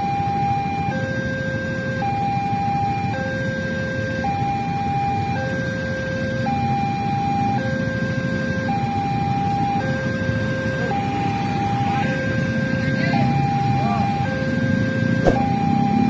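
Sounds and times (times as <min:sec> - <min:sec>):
two-tone level-crossing alarm: 0:00.0 - 0:16.0.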